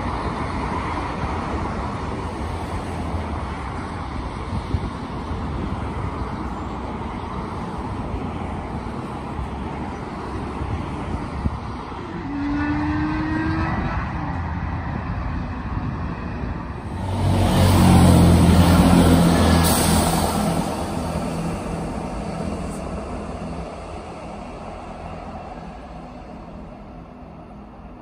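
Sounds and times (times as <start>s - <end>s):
diesel train engine drone: 0.0s - 28.0s
distant train rumble: 0.0s - 28.0s
road traffic: 0.0s - 28.0s
wind: 0.0s - 28.0s.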